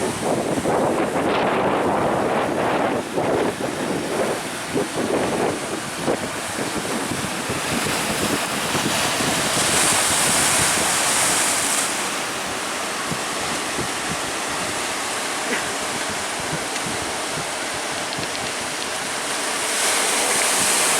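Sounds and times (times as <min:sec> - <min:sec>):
surf breaking and washing: 0:00.0 - 0:20.9
wind buffeting microphone: 0:00.0 - 0:20.9.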